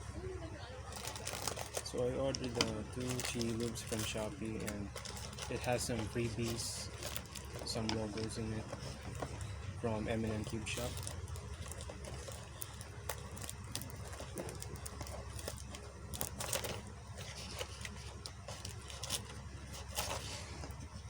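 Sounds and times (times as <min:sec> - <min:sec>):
plastic packaging clicks and scrapes: 0:00.8 - 0:21.0.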